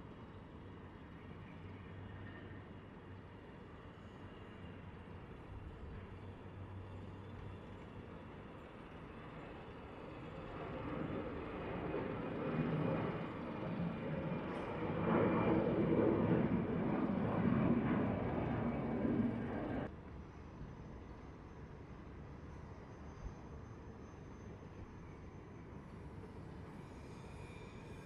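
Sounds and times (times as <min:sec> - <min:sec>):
jet engines at takeoff power: 0:00.0 - 0:28.0.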